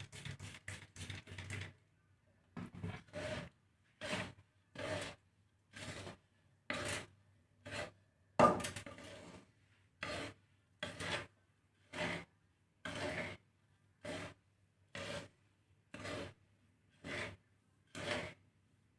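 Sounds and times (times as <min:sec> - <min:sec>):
spatula scraping grains in pan: 0:00.0 - 0:01.7, 0:02.8 - 0:08.0, 0:08.6 - 0:18.5.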